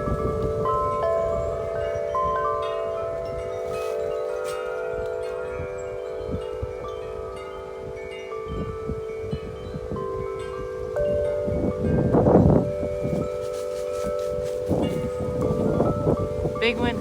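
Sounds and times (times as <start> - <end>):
wind chimes ringing: 0.0 - 17.0
wind rumbling on microphone: 0.0 - 17.0.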